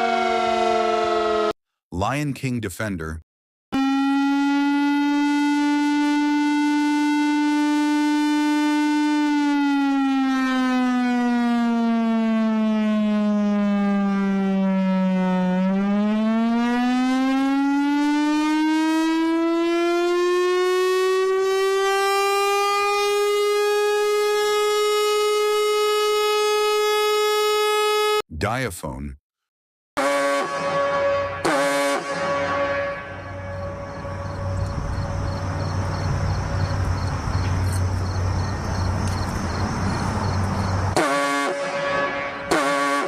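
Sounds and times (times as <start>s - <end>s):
warning siren wailing: 0.0s - 1.6s, 3.8s - 28.2s, 30.0s - 43.0s.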